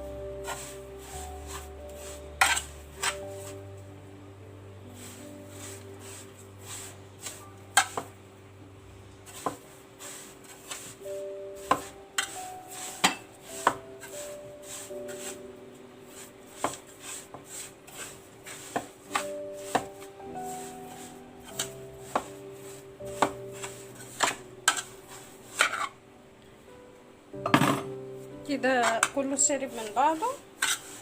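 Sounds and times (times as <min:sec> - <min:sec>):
soft background music: 0:00.0 - 0:31.0.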